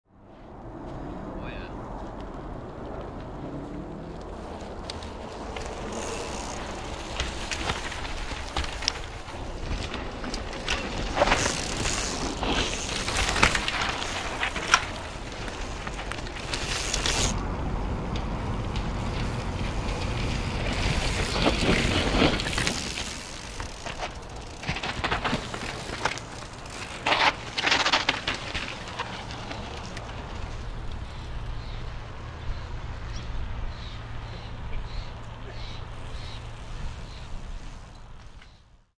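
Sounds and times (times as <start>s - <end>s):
tyres crunching and skidding on dirt: 0.4s - 38.8s
bikes clattering and rattling: 1.9s - 38.9s.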